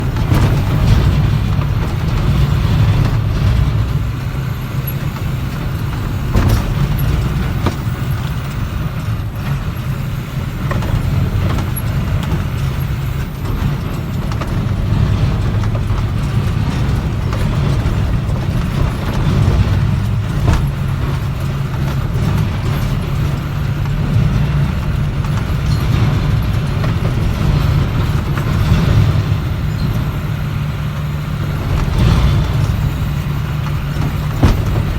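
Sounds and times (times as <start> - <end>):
knocks and rattles: 0.0 - 34.9
truck engine running: 0.0 - 34.9.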